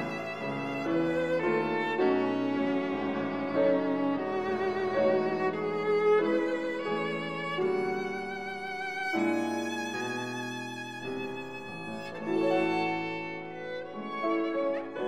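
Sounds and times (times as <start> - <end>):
violin playing slow notes: 0.0 - 15.0.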